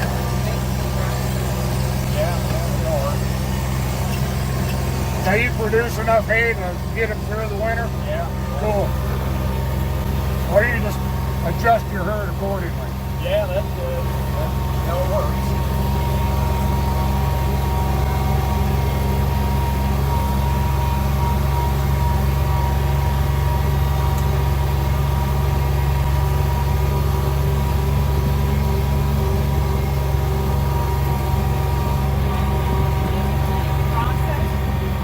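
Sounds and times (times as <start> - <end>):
faint steady whine: 0.0 - 35.0
vehicle engine humming: 0.0 - 35.0.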